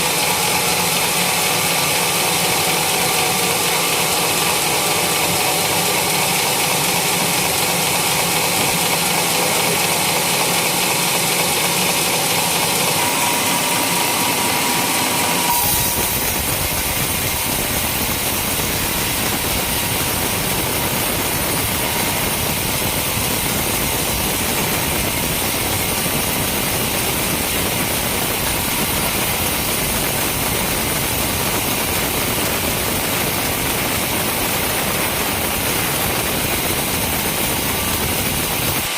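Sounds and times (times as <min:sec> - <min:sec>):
sawmill sawing: 0:00.0 - 0:38.9.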